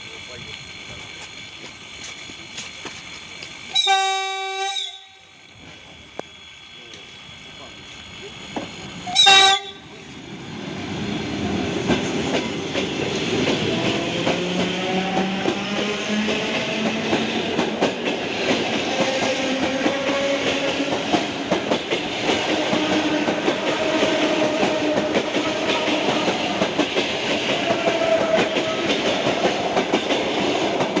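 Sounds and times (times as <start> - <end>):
wheels clattering on rail joints: 0.0 - 4.5, 5.4 - 9.8, 10.9 - 31.0
traction motors whining: 0.0 - 31.0.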